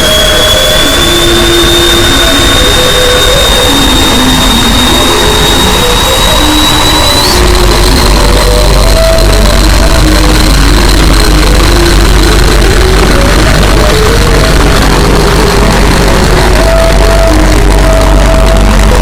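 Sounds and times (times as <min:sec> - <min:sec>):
deep hum: 0:00.0 - 0:19.0
harsh distorted noise: 0:00.0 - 0:19.0
high whistling tone: 0:00.0 - 0:19.0.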